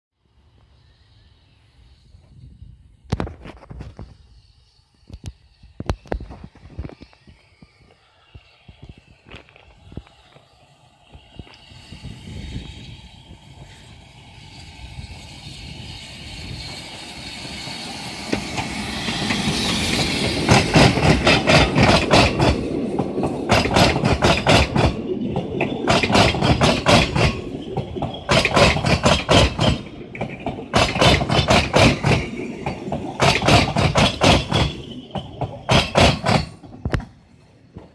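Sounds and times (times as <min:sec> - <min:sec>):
steam locomotive hissing: 0:00.2 - 0:37.9
train wheels clicking over rail joints: 0:03.0 - 0:37.9
carriages rolling rumble: 0:06.5 - 0:37.9.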